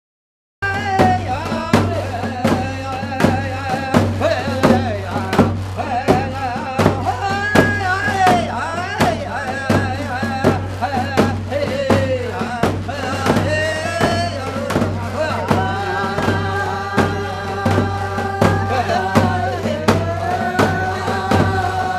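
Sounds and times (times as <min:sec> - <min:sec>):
music with steady beat: 0:00.6 - 0:21.9.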